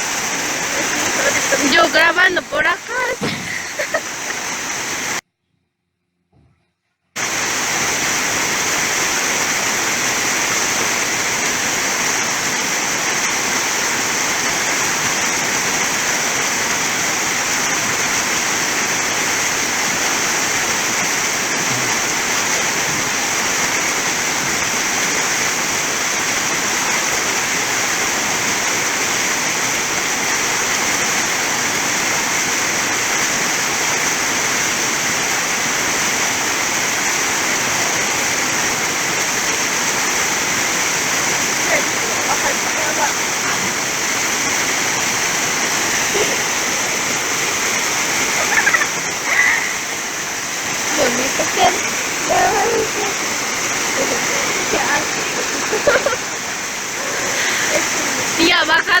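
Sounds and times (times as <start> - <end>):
waterfall crashing: 0.0 - 5.2, 7.2 - 59.0.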